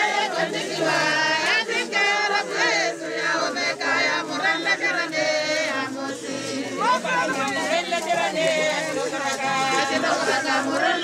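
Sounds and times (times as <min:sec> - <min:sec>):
group singing a funeral song: 0:00.0 - 0:11.0.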